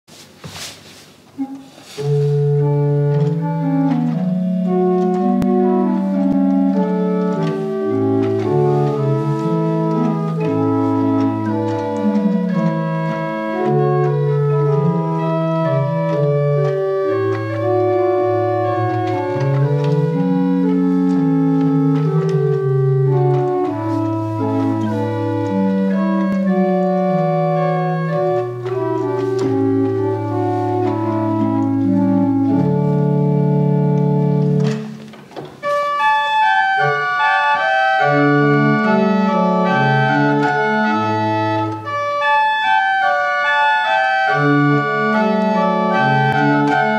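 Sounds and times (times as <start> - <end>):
pipe organ playing chords: 1.3 - 46.9.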